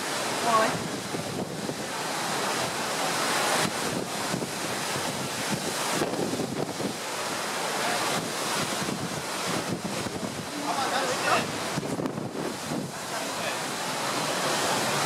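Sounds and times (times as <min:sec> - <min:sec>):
rough sea waves rushing: 0:00.0 - 0:15.0
wind buffeting microphone: 0:00.0 - 0:15.0.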